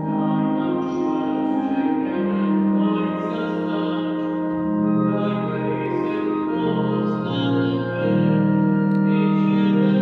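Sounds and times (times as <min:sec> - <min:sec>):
church organ chords: 0:00.0 - 0:10.0.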